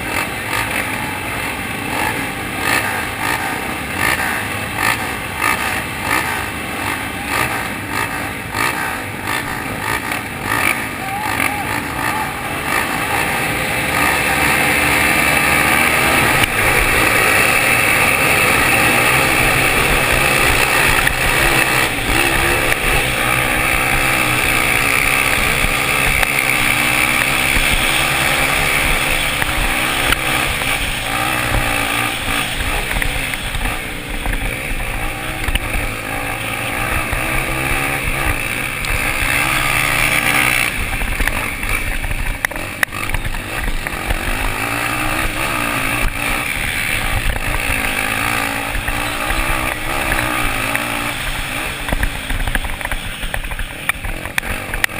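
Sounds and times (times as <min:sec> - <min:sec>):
off-road motorcycle engines revving: 0:00.0 - 0:54.9.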